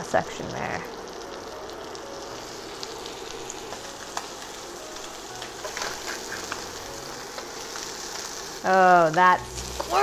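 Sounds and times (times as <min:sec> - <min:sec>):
food sizzling in a skillet: 0:00.0 - 0:10.0.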